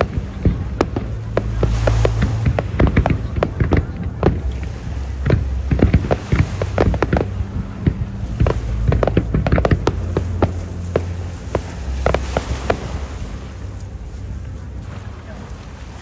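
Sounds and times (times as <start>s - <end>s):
fireworks bangs and crackles: 0.0s - 13.8s
low rumble: 0.0s - 16.0s.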